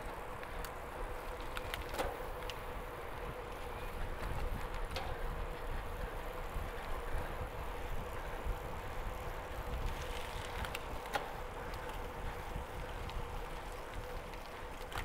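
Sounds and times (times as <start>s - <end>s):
bicycle tyre and wind rumble: 0.0s - 15.0s.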